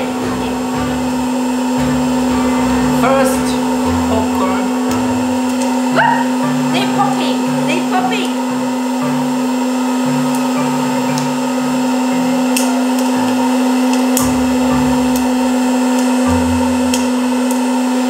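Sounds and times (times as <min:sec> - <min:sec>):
popcorn maker fan whirring: 0:00.0 - 0:18.0.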